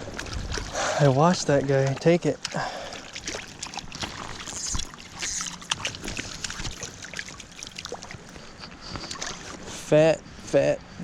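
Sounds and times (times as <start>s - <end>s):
water splashing and dripping: 0.0s - 9.7s.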